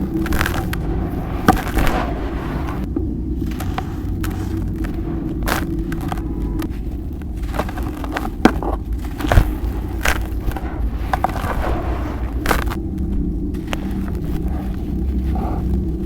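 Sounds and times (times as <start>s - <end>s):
dried cement crumbling and cracking: 0.0s - 16.0s
microphone hum: 0.0s - 16.0s.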